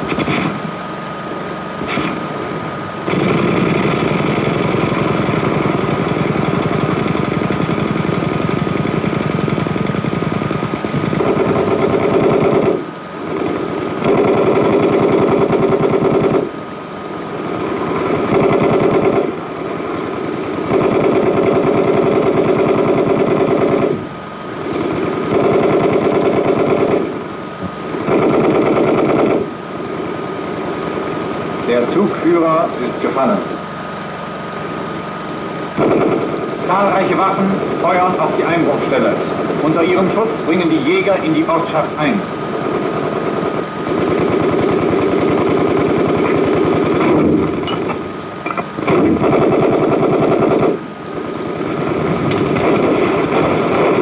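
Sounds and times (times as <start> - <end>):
fast mechanical rattle: 0.0 - 54.0
steady high hum: 0.0 - 54.0.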